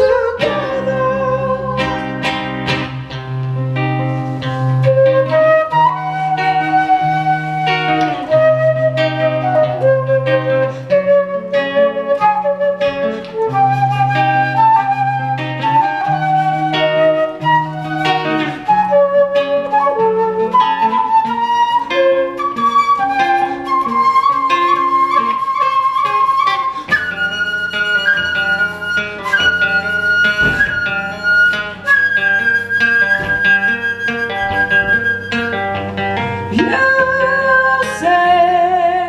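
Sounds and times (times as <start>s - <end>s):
flute melody: 0.0s - 38.3s
plucked guitar: 0.0s - 39.0s.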